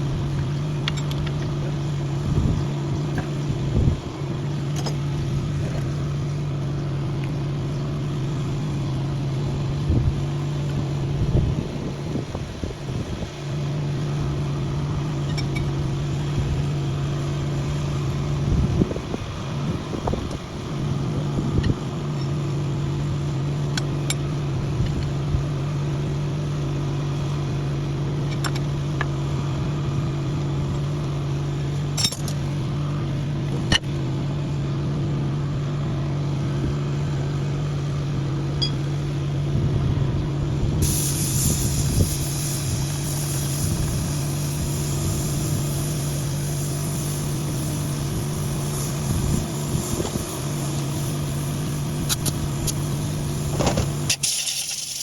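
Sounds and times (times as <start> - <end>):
rough uneven mechanical noise: 0.0 - 34.4, 40.6 - 55.0.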